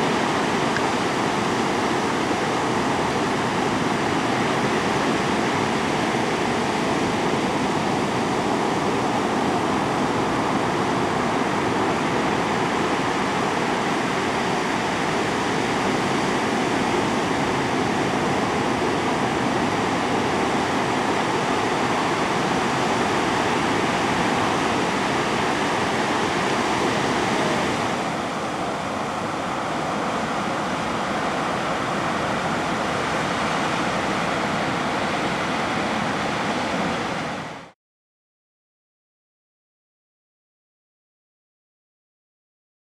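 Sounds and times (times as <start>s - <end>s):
ocean surf breaking: 0.0s - 37.8s.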